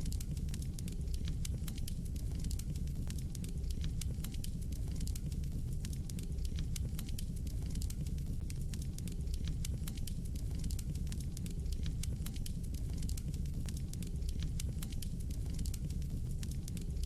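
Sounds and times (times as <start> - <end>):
logs crackling and snapping: 0.0 - 17.0
low rumble of flames: 0.0 - 17.0.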